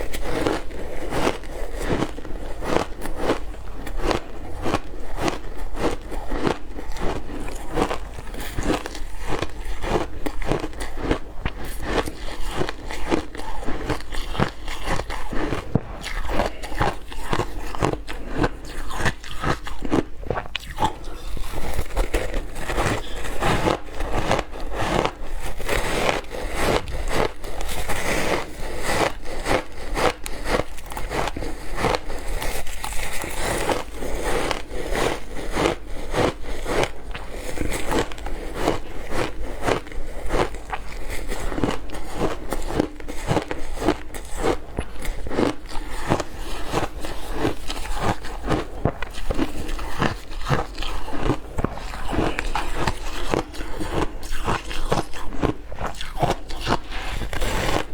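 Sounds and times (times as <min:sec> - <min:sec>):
ice crunching between teeth: 0:00.0 - 0:57.9.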